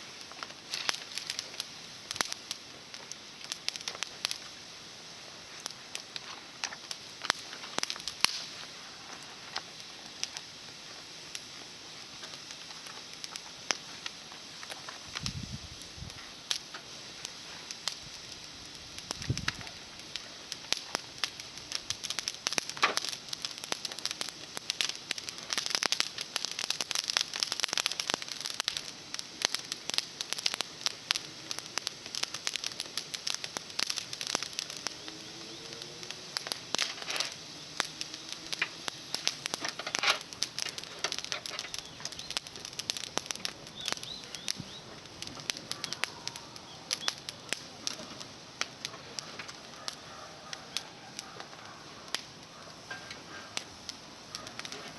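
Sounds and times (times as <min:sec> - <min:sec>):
campfire twigs crackling and popping: 0:00.0 - 0:54.9.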